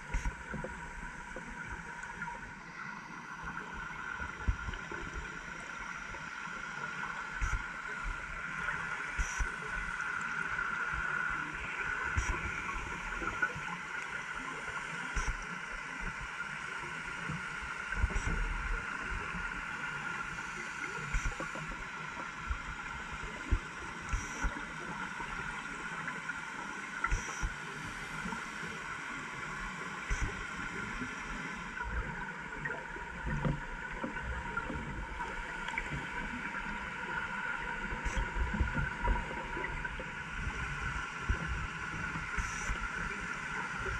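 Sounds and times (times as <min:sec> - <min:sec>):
muffled underwater hum: 0:00.0 - 0:43.9.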